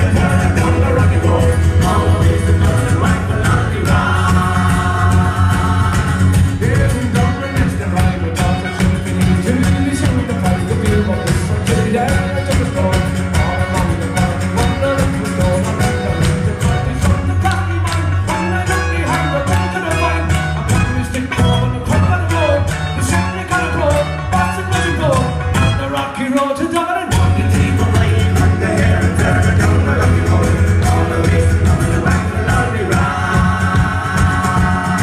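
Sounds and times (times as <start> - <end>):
bass: 0.0 - 35.0
live folk band playing: 0.0 - 35.0.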